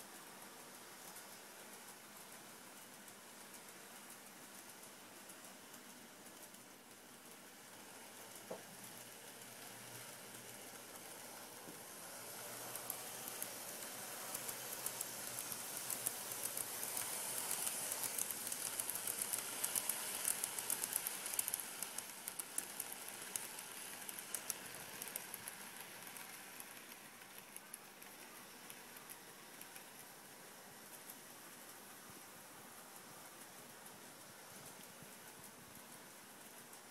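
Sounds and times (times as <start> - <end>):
model train wheels rattling on rails: 0.0 - 36.9.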